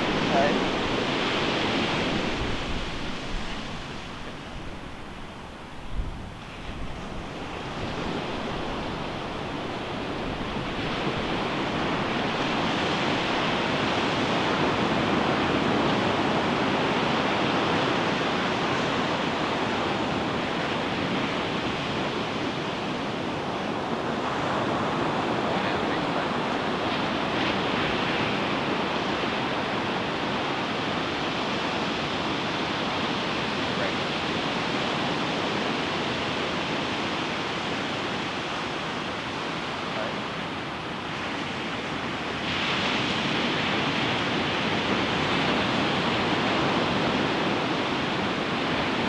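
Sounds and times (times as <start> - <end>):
ocean surf breaking: 0.0 - 4.9, 7.4 - 49.0.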